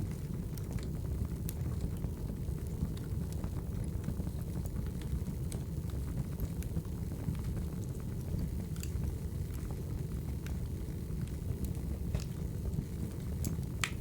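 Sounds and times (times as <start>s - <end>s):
fire crackling and popping: 0.0s - 14.0s
fire low rumble: 0.0s - 14.0s.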